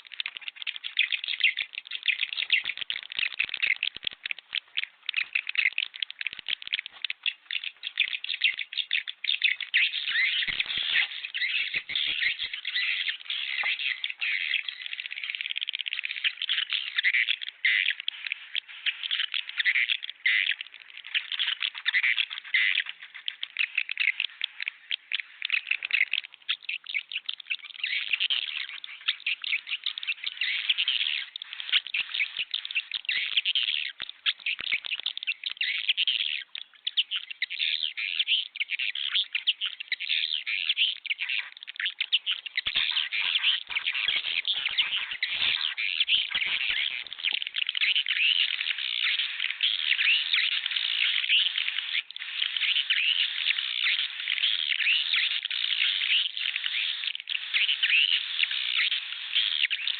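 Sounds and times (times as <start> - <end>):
swiftlets twittering chirps: 0.8 - 24.2, 24.8 - 59.9.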